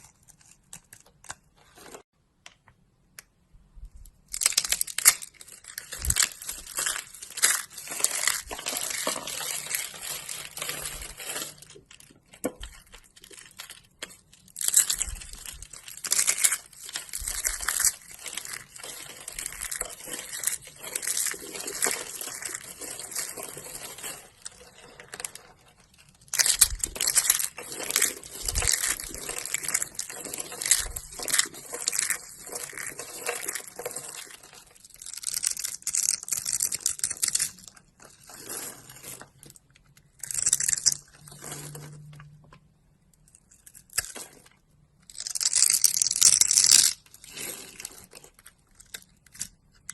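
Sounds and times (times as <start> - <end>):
knife carving dry soap: 4.3 - 41.2, 43.3 - 49.9.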